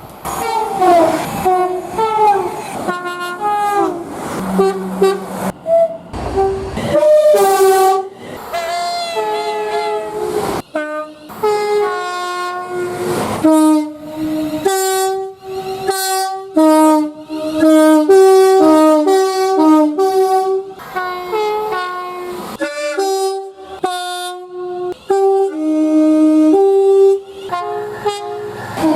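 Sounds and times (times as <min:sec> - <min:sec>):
train horn blasts: 0:00.4 - 0:28.9.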